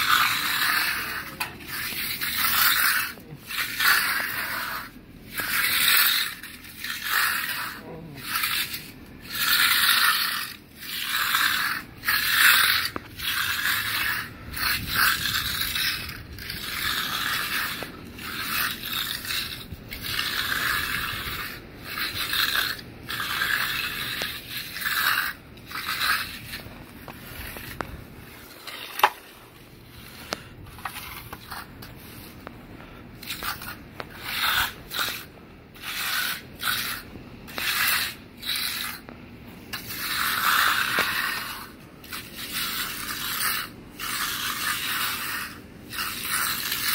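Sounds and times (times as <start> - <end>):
steel trowels scraping concrete: 0.0 - 46.9.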